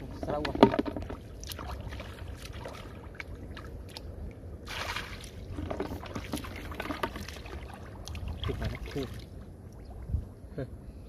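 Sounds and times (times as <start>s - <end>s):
muddy water splashing and sloshing: 0.0s - 10.2s.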